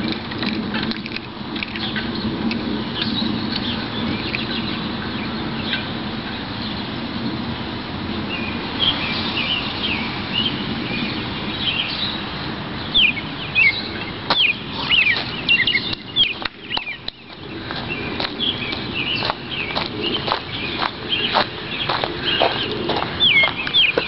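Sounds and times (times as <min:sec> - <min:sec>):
songbirds chirping: 0:00.0 - 0:24.0
steady outdoor hum: 0:00.0 - 0:24.0.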